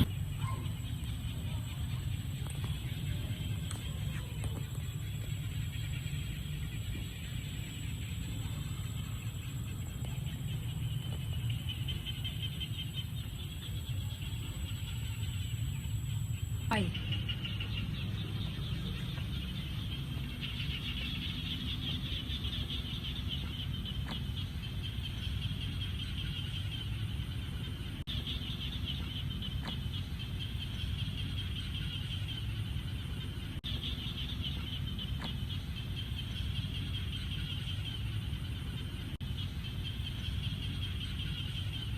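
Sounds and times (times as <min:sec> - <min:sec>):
frogs calling in chorus: 0:00.0 - 0:41.9.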